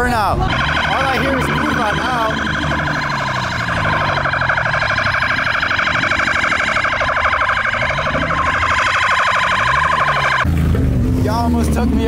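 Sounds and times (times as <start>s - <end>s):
police siren fast warble: 0.0s - 10.5s
steady siren tone: 0.0s - 10.6s
vehicle engine drone: 0.0s - 12.0s.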